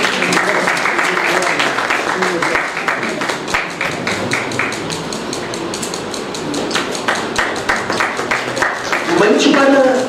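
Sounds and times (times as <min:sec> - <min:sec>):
audience clapping in rhythm: 0:00.0 - 0:10.0.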